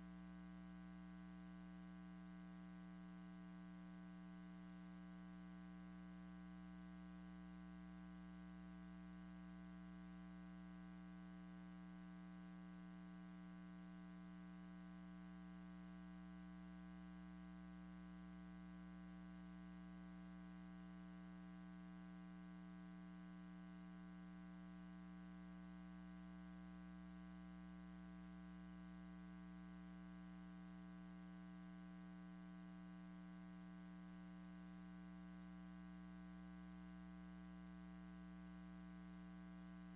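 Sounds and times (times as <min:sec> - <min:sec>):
faint electrical hum with buzz: 0:00.0 - 0:39.9.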